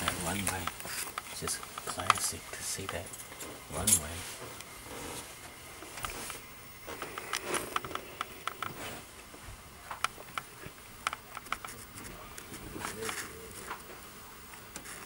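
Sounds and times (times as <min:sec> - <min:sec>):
rustling of things handled: 0:00.0 - 0:10.7, 0:11.4 - 0:14.0.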